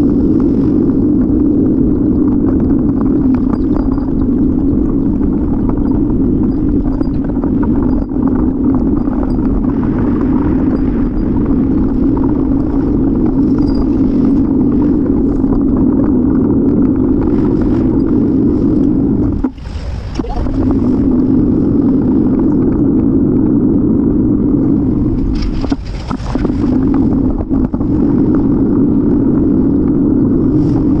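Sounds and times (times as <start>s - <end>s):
wind and road noise: 0.0s - 31.0s.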